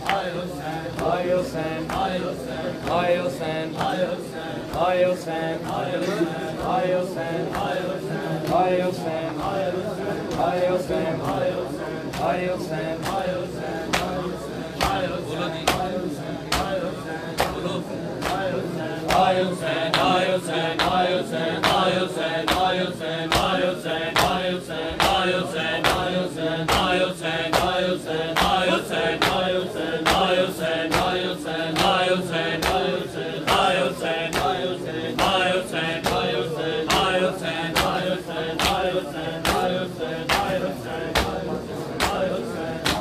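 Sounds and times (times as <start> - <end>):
crowd of men chanting: 0.0 - 43.0.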